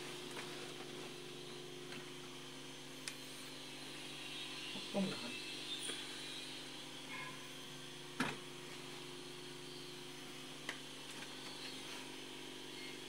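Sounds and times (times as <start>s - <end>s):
faint mechanical hum: 0.0s - 13.0s.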